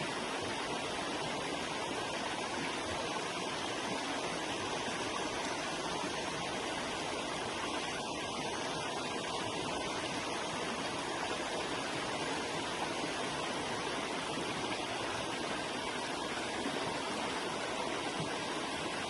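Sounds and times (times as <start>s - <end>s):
river flowing over rocks: 0.0s - 19.0s.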